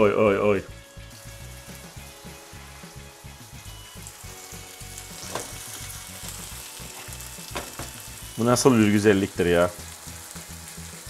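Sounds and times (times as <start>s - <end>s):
fish frying sizzle: 0.4s - 11.0s.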